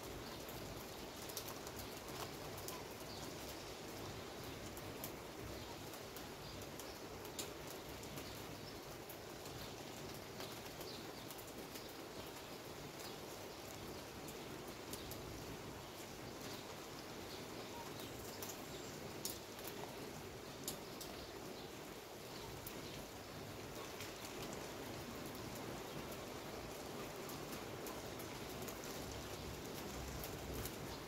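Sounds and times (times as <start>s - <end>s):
rain hissing: 0.0s - 31.0s
raindrops tapping surfaces: 0.0s - 31.0s.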